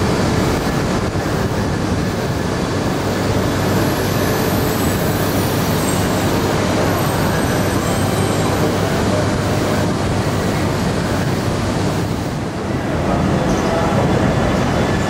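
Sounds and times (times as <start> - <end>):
trains humming at platform: 0.0 - 15.0.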